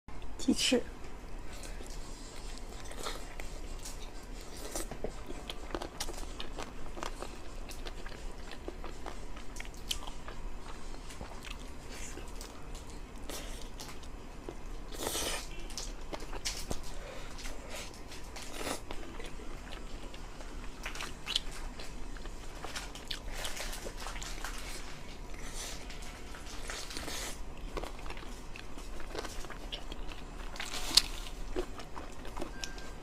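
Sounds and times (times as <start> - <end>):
crunchy chewing: 1.4 - 32.9.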